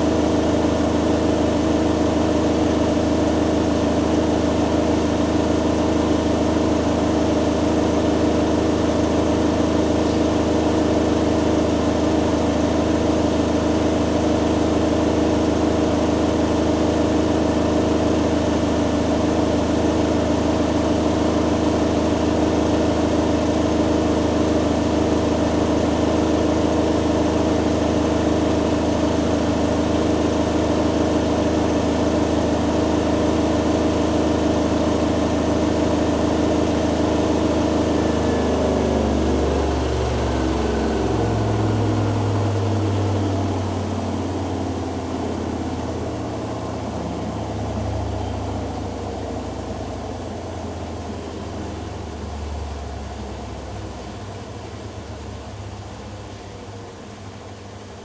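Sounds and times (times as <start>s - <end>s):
washing machine spinning: 0.0s - 52.7s.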